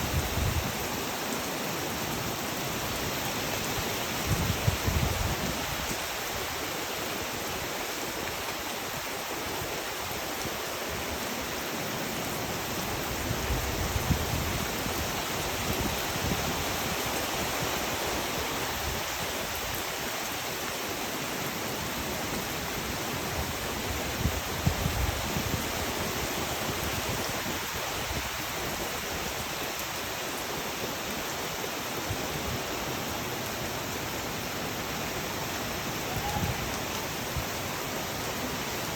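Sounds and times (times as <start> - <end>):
heavy rain on a pond: 0.0 - 38.9.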